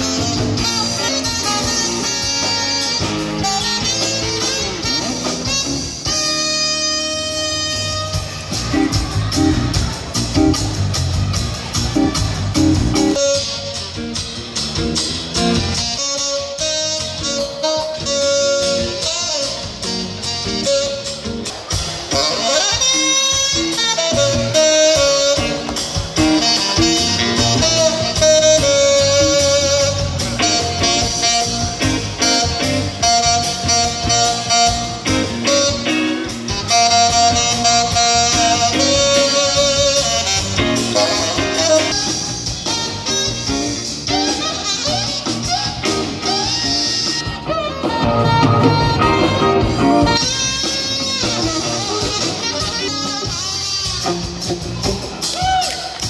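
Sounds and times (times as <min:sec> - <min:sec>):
tenor saxophone long notes: 0:00.0 - 0:09.5, 0:13.0 - 0:14.2, 0:15.6 - 0:21.5, 0:22.1 - 0:56.0
bass guitar: 0:00.0 - 0:56.0
drum kit: 0:00.0 - 0:56.0
electric guitar: 0:00.0 - 0:56.0.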